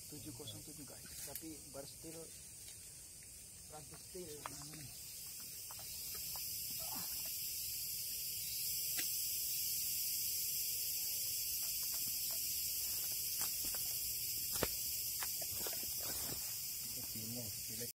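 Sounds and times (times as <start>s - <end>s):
high-pitched insect chorus: 0.0s - 17.9s.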